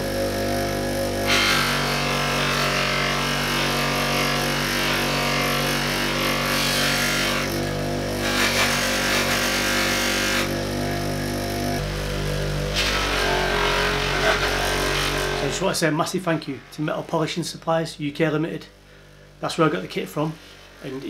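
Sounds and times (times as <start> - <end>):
bench polisher humming: 0.0 - 17.5.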